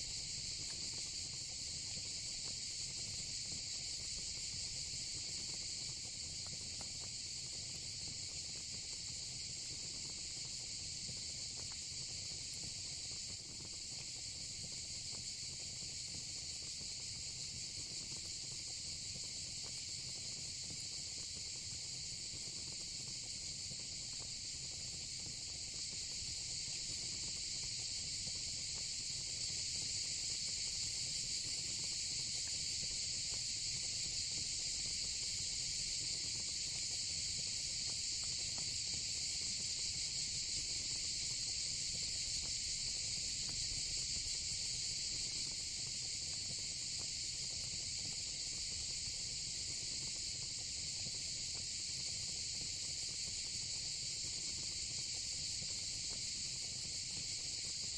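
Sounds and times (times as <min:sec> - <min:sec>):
crickets and night insects chirping: 0:00.0 - 0:57.9.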